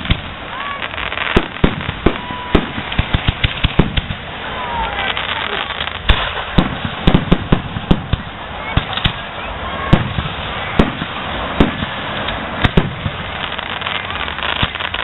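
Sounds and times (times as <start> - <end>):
firework shells bursting: 0.0 - 9.3, 9.9 - 15.0.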